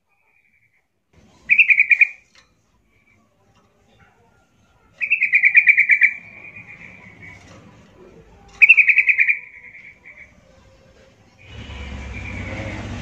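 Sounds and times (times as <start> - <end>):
bird singing chattering phrases: 0.1 - 12.8.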